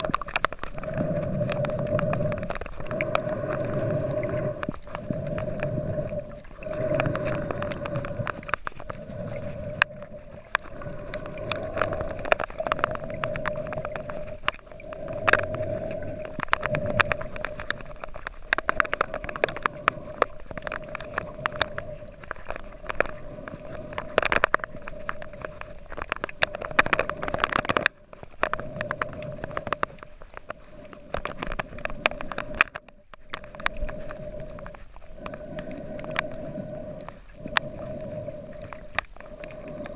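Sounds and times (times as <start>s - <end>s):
crackle of sharp clicks: 0.0s - 39.9s
swishes of moving water: 0.0s - 39.9s
underwater hum: 0.0s - 39.9s.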